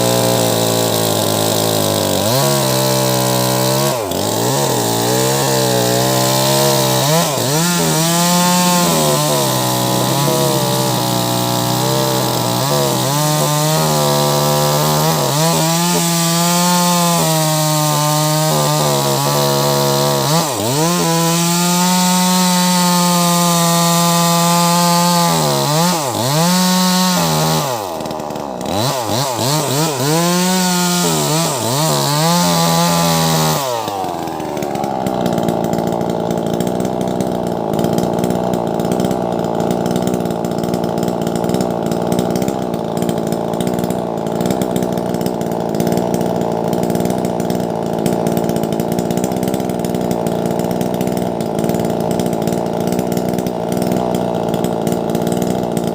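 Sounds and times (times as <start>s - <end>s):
chainsaw cutting a log: 0.0s - 55.9s.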